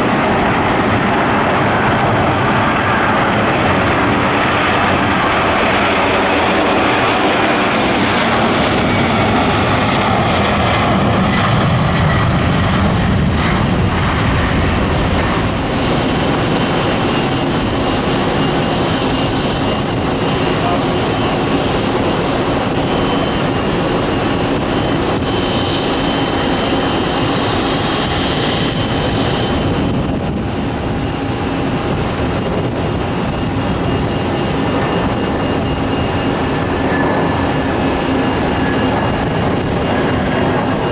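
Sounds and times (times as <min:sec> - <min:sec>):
jet engines rumbling with whine: 0:00.0 - 0:40.9.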